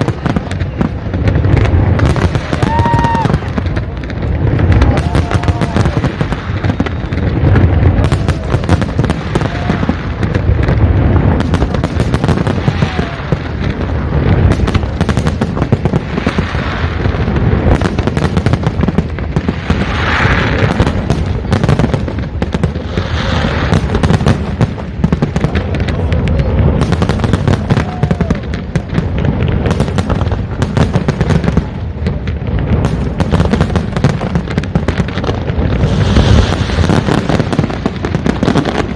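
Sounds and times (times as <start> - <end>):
fireworks bursting: 0.0 - 38.9
fireworks crackling: 0.0 - 38.9.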